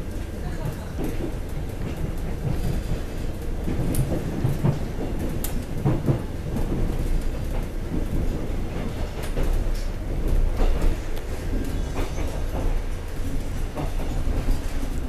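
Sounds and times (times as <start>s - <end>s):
train coach rumbling on track: 0.0s - 15.0s.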